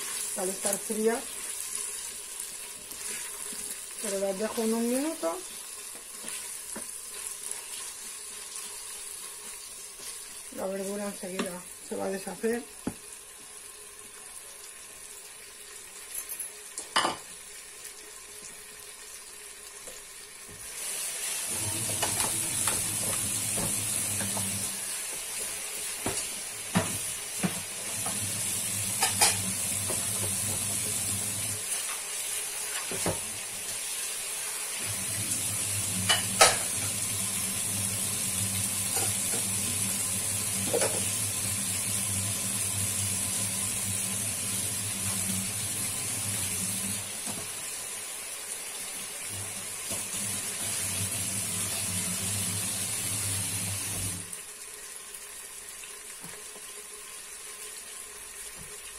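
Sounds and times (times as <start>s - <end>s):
food sizzling in a pot: 0.0s - 58.9s.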